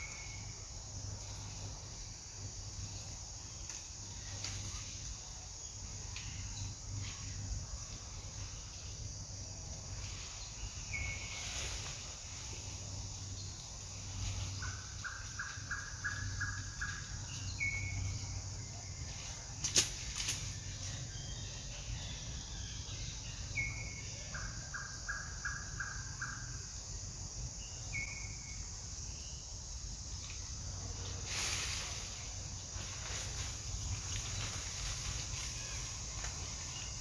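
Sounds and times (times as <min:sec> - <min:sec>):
high insect buzz: 0:00.0 - 0:37.0.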